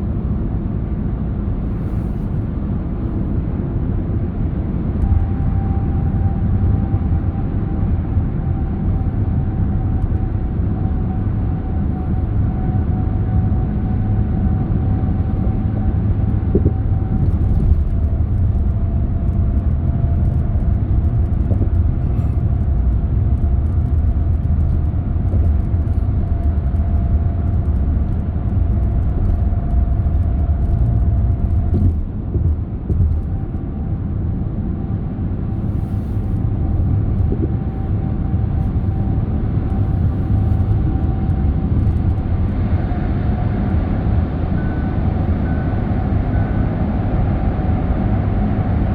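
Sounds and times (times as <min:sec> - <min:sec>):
car engine and tyre rumble: 0:00.0 - 0:48.9
faint whine: 0:01.6 - 0:48.9.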